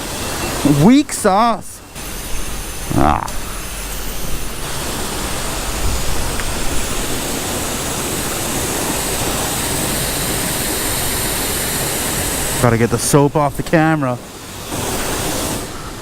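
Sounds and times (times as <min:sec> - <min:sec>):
pressure washer spraying water: 0:00.0 - 0:16.0.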